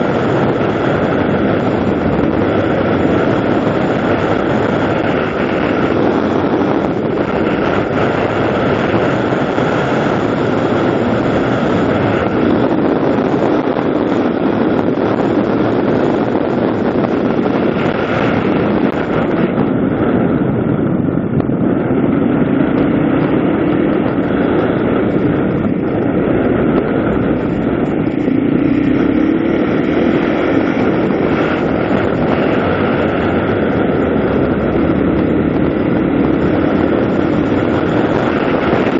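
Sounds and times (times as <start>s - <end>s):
vehicle engine running: 0.0s - 38.9s
wind noise on microphone: 0.0s - 38.9s.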